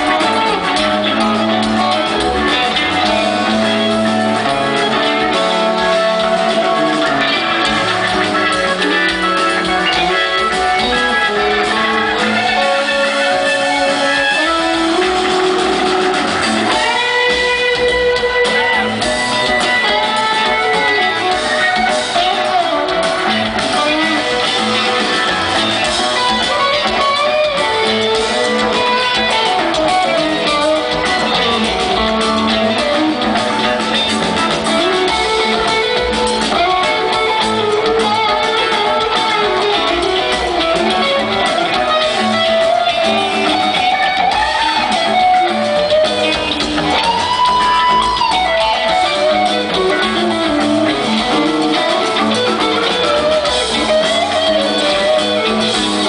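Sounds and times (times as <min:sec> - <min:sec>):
electric guitars: 0:00.0 - 0:56.0
rock band playing live: 0:00.0 - 0:56.0.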